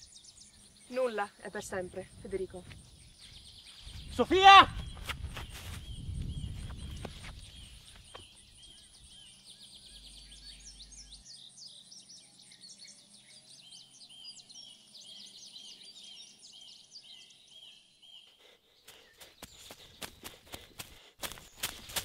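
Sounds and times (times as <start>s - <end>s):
small birds chirping and trilling: 0.0s - 22.0s.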